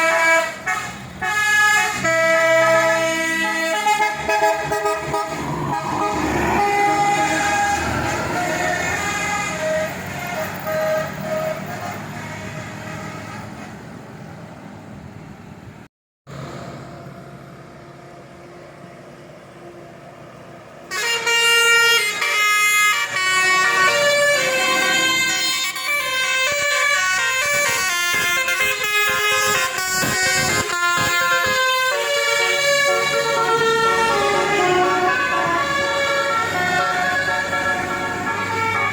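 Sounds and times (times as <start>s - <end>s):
bus musical air horn: 0.0s - 13.9s, 20.9s - 38.9s
road vehicle noise: 0.0s - 38.9s.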